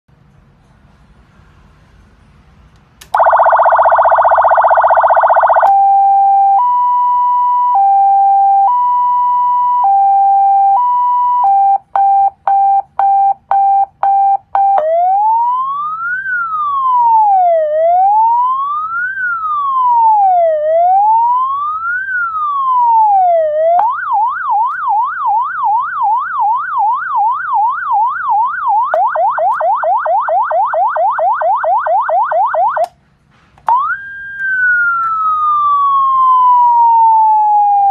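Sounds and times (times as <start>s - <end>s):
electronic siren cycling tones: 3.1s - 32.9s, 33.7s - 37.9s.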